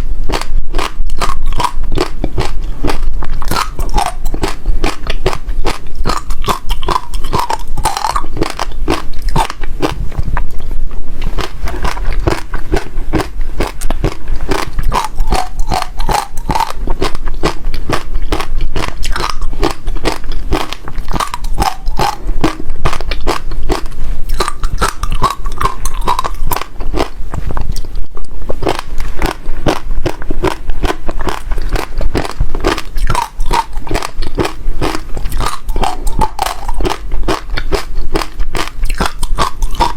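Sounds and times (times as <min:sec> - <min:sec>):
crunchy seeds being chewed: 0:00.3 - 0:39.9.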